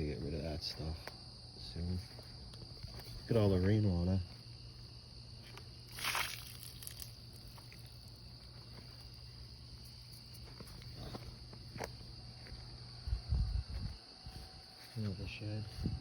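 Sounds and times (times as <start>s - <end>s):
crickets trilling: 0.0s - 16.0s
soft footsteps: 1.9s - 16.0s.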